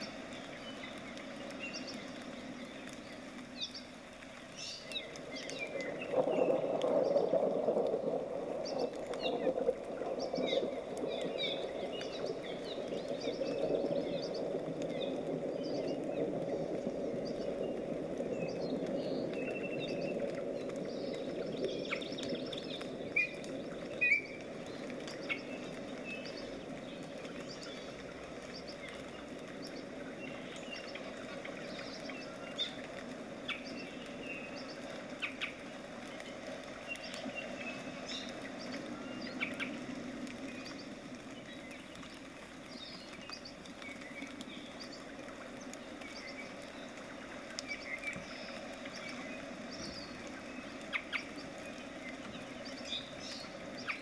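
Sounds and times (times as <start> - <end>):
small ticks: 0.0 - 54.0.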